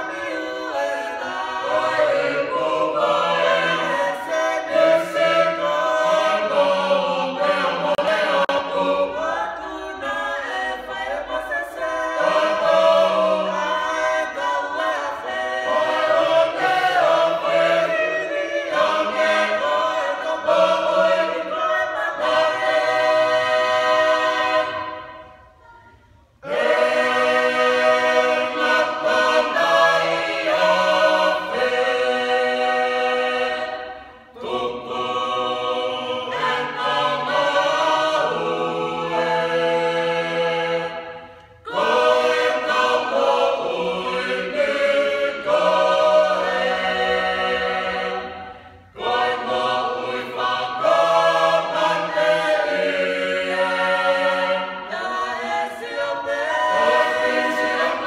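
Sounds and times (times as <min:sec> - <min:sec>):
mixed choir singing a cappella: 0:00.0 - 0:58.0.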